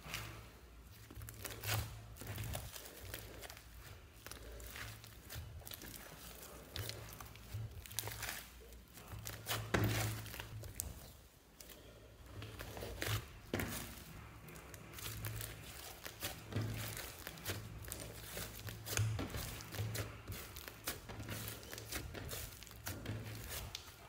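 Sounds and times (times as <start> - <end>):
slime squishing and crackling: 0.0 - 24.0.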